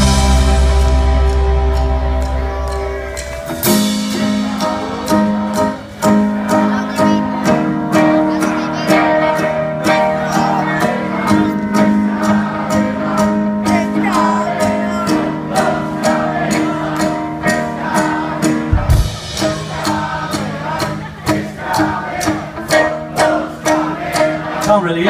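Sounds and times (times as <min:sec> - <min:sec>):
rock band playing: 0:00.0 - 0:25.0
voices singing along: 0:02.5 - 0:25.0.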